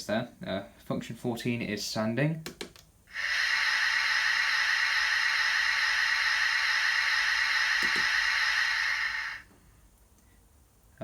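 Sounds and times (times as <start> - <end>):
steady hiss through small speaker: 0.0 - 11.0.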